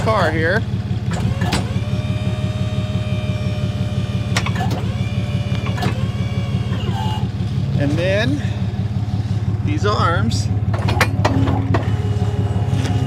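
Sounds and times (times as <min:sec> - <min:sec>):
steady hydraulic whine: 0:00.0 - 0:13.0
truck engine idling: 0:00.0 - 0:13.0
wheel lift clunks: 0:00.0 - 0:13.0.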